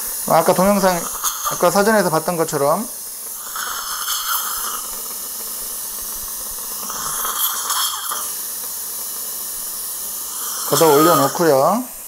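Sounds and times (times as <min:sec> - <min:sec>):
surgical suction hissing: 0:00.0 - 0:12.0.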